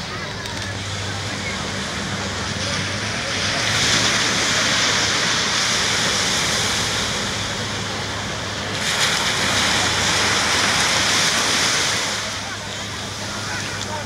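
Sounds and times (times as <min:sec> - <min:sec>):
small waves breaking on beach: 0:00.5 - 0:14.0.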